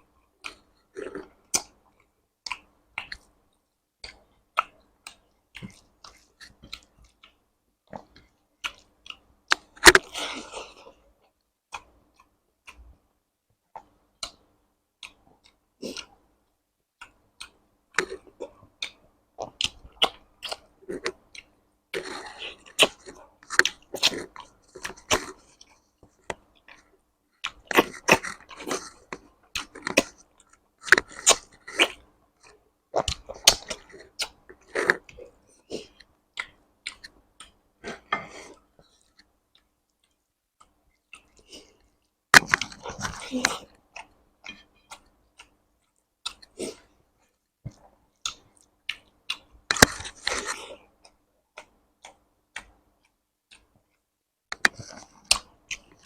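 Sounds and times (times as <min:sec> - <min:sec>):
chewing and wet mouth sounds: 0:00.3 - 0:13.1, 0:17.0 - 0:54.0, 0:54.6 - 0:56.0.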